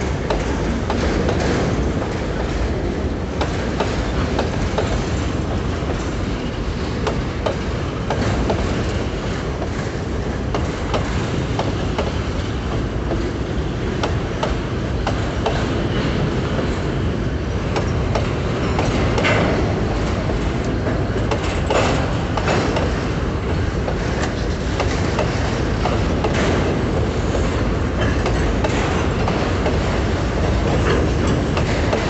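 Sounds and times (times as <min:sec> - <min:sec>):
steel wheels rumbling on rail: 0:00.0 - 0:32.0
wheels clanking over rail joints: 0:00.0 - 0:32.0.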